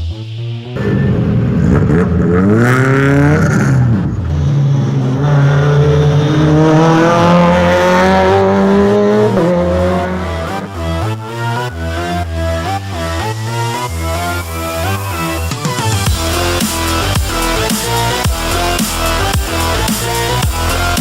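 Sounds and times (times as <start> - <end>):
rally car engine accelerating: 0.7 - 21.0.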